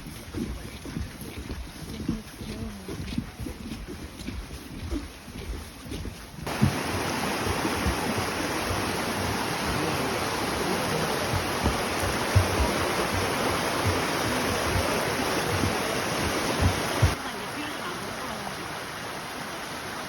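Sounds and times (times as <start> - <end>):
soft low thumps: 0.0 - 17.2
rushing stream water: 0.0 - 20.0.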